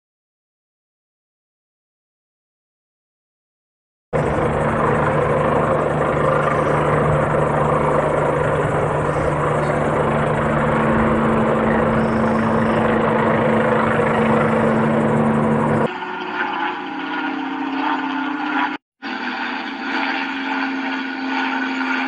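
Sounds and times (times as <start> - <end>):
helicopter running: 4.2 - 22.0.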